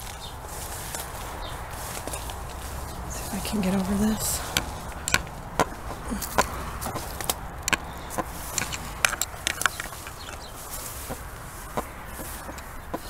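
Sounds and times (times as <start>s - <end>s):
footsteps through tall grass: 0.0s - 13.0s.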